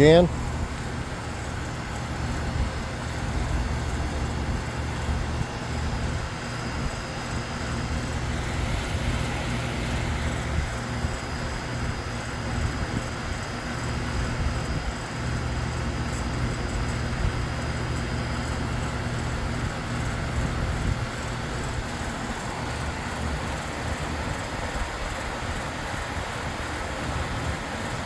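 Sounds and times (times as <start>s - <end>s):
compressor hum: 0.0s - 28.0s
condenser fan rushing: 0.0s - 28.0s.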